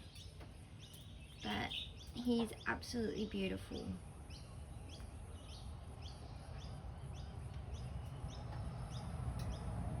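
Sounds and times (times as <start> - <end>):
bird chirping: 0.0 - 9.9.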